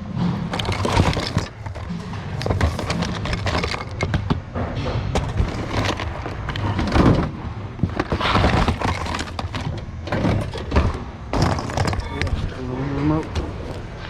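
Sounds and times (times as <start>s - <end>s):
steady low hum: 0.0s - 14.0s
hands rummaging through plastic cases: 0.4s - 4.5s, 5.1s - 14.0s.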